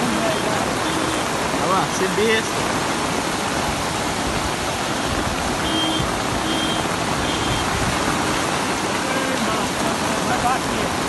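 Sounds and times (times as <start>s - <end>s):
floodwater rushing: 0.0s - 11.0s
heavy rain: 0.0s - 11.0s.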